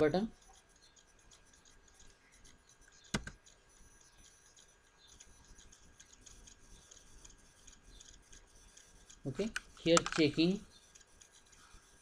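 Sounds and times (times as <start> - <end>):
faint ticks: 0.0 - 12.0
computer keyboard keystroke: 0.4 - 12.0.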